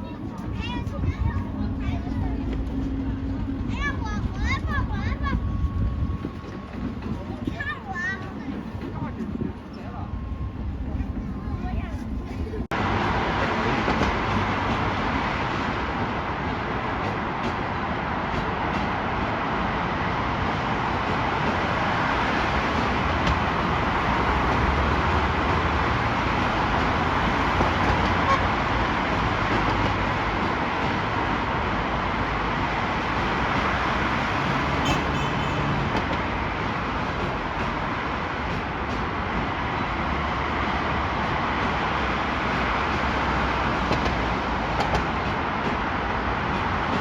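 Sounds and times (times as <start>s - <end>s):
vehicle noise rumble: 0.0s - 17.9s, 19.0s - 47.0s.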